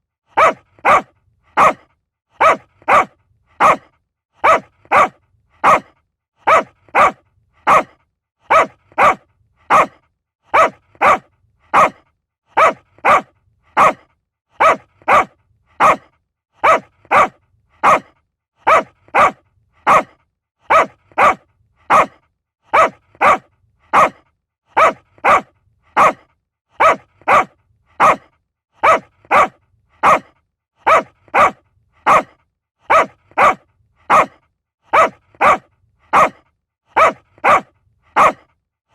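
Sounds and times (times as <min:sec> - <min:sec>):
small dog barking: 0:00.3 - 0:14.0, 0:14.6 - 0:38.5.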